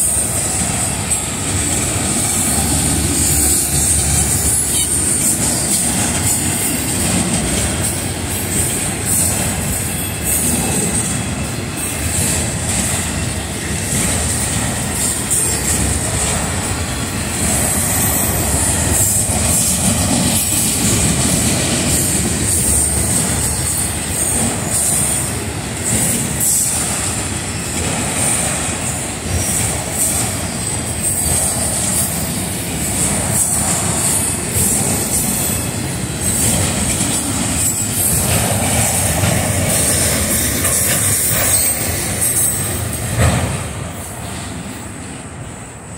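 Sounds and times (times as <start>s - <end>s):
high wheel squeal: 0.0s - 12.2s, 14.4s - 28.4s, 29.3s - 43.2s
train wheels rumbling on rails: 0.0s - 45.9s.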